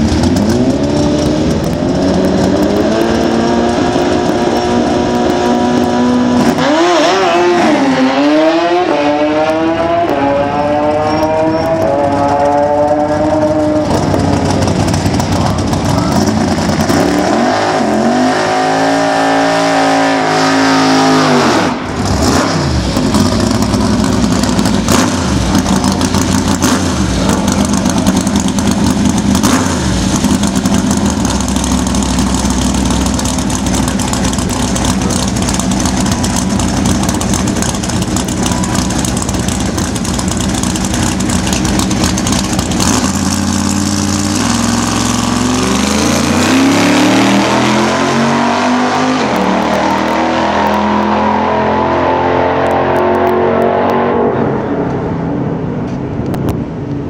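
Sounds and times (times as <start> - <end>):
car engine revving and idling: 0.0 - 57.0.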